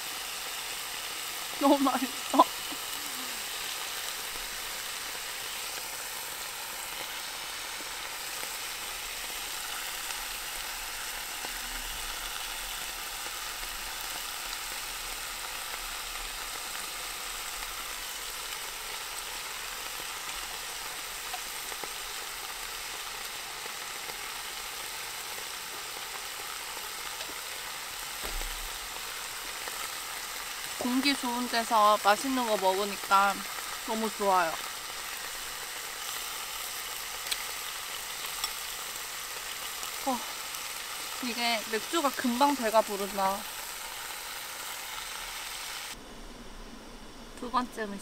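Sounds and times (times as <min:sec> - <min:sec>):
meat frying sizzle: 0:00.0 - 0:46.0.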